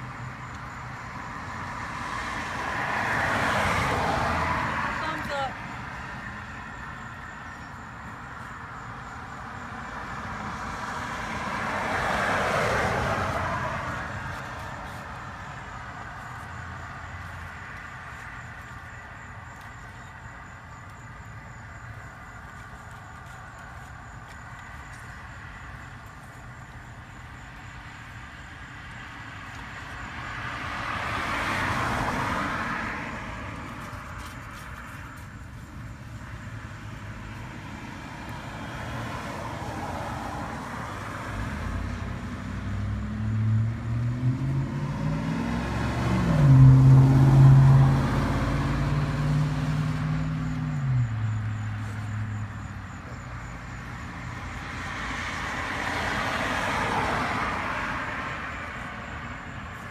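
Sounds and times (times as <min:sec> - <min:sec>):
car passing: 0:00.0 - 0:59.9.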